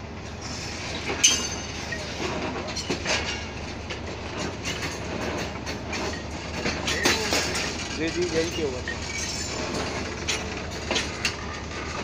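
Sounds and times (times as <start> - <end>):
train rattling on track: 0.0 - 12.0.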